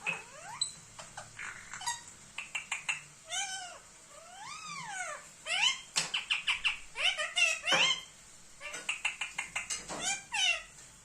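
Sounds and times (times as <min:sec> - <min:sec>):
parrot chirping and calling: 0:00.0 - 0:10.8.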